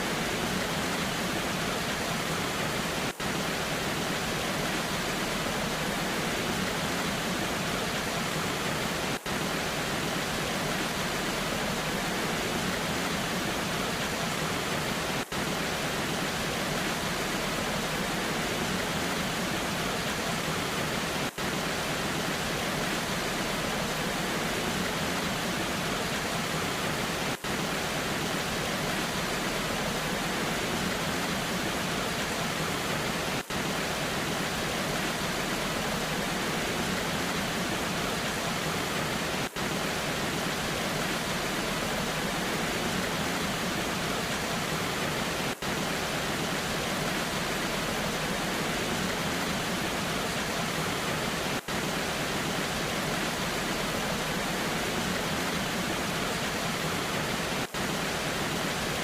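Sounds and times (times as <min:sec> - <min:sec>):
rain: 0:00.0 - 0:59.0
waterfall rushing: 0:00.0 - 0:59.0.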